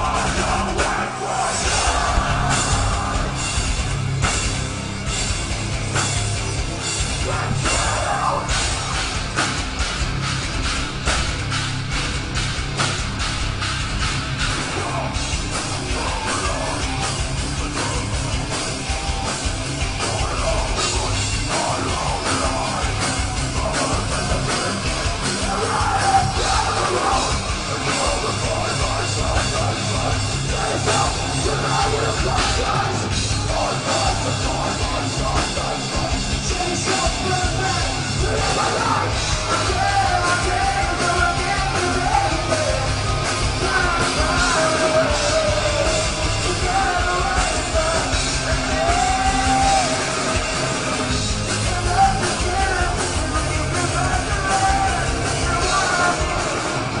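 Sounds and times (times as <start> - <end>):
vocalist yelling and singing: 0.0 - 3.6, 7.1 - 9.3, 14.4 - 18.6, 19.8 - 57.0
distorted guitars: 0.0 - 57.0
pounding drums: 0.0 - 57.0.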